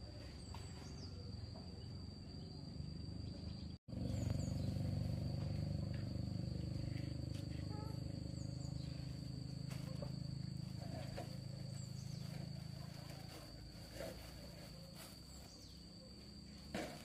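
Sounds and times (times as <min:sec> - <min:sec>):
high-pitched insect drone: 0:00.0 - 0:17.0
low droning hum: 0:00.0 - 0:17.0.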